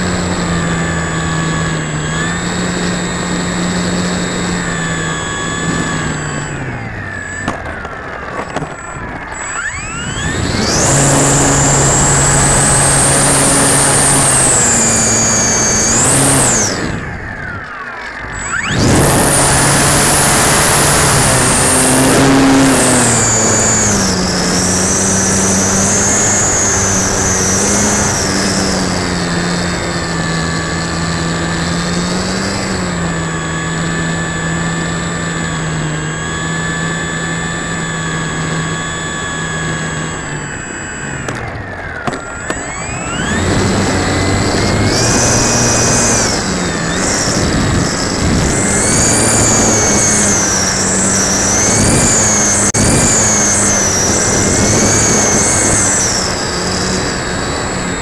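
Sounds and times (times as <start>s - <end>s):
model plane motor whine: 0.0s - 58.0s.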